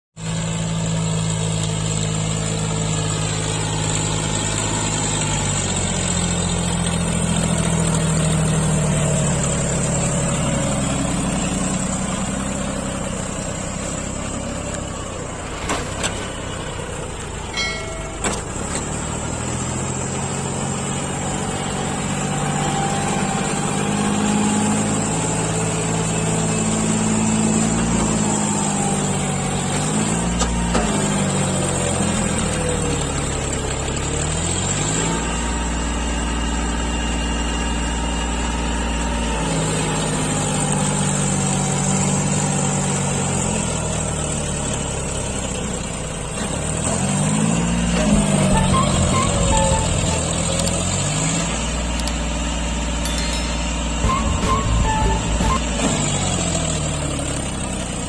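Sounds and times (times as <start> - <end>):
tractor diesel engine under load: 0.2 - 58.0.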